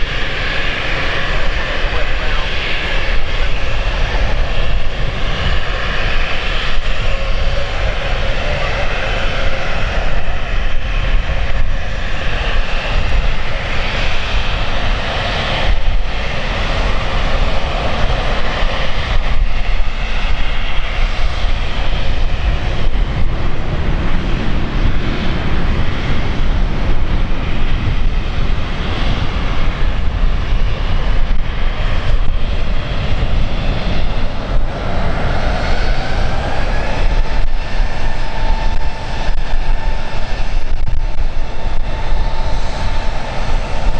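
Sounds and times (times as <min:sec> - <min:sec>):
airliner engines running: 0:00.0 - 0:43.9.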